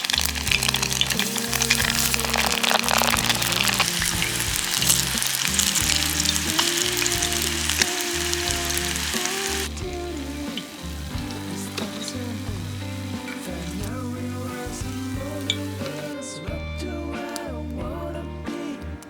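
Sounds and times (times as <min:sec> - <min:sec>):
food deep-frying in oil: 0:00.0 - 0:16.1
background music: 0:00.0 - 0:19.0.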